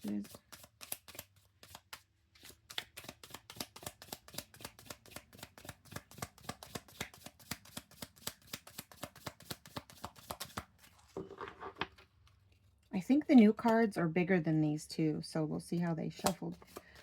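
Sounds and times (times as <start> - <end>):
cards being shuffled: 0.0 - 12.8, 16.2 - 17.0.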